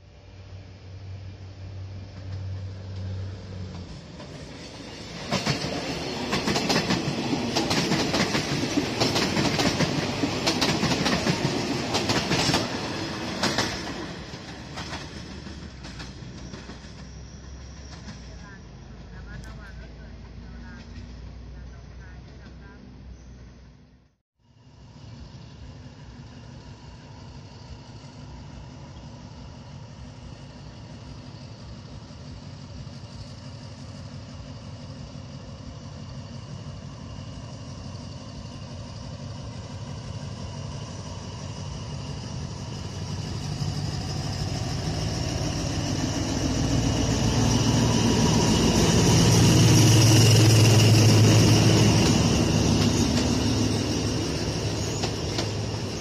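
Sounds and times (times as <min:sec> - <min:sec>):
diesel locomotive engine drone: 0:00.0 - 0:56.0
train coaches rolling past: 0:00.0 - 0:56.0.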